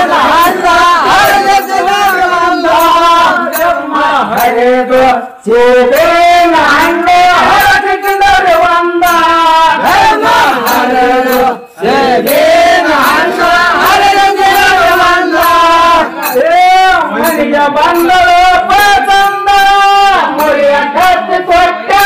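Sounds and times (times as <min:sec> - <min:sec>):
men singing folk song: 0:00.0 - 0:22.0.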